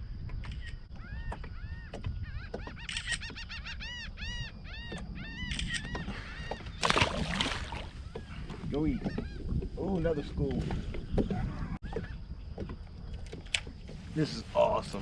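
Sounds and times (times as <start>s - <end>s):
birds calling: 0.5s - 15.0s.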